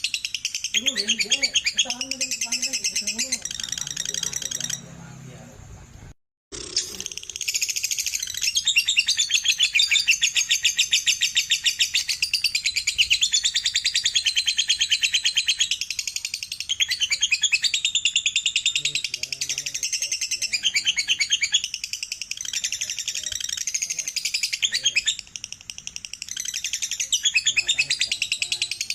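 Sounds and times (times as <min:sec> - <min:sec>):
lovebird chattering: 0:00.0 - 0:05.1, 0:06.6 - 0:28.9.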